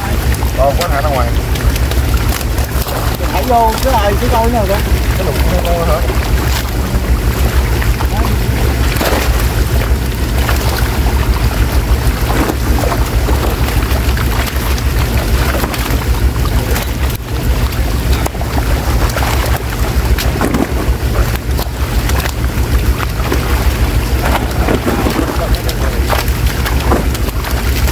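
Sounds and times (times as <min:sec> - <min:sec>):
fish splashing in shallow water: 0:00.0 - 0:27.9.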